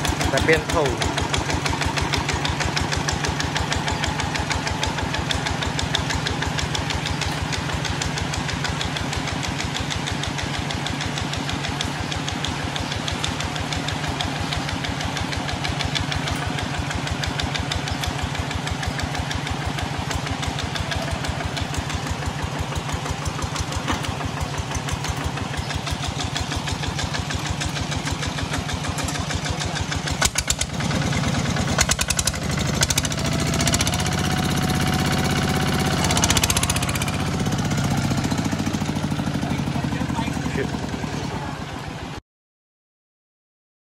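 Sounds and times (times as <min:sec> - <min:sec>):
diesel tractor engine chugging: 0:00.0 - 0:42.2.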